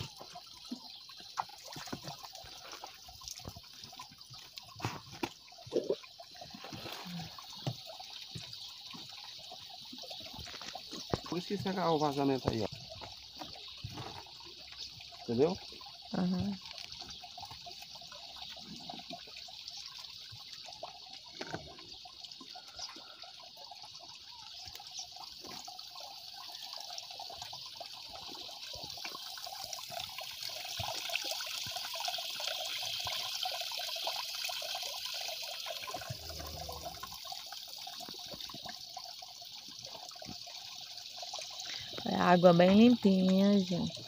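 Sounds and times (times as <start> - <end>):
water trickling into trough: 0.0 - 44.0.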